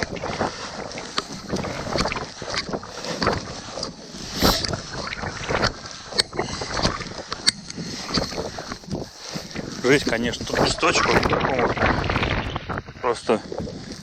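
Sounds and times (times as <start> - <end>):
blizzard wind on microphone: 0.0 - 14.0
footsteps crunching on snowy ice: 0.0 - 14.0.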